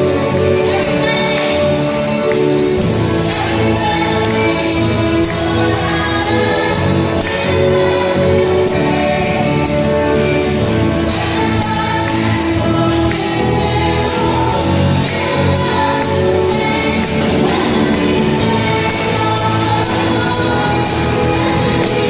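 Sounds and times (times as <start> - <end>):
drum kit: 0.0 - 22.0
electric guitars: 0.0 - 22.0
keyboard: 0.0 - 22.0.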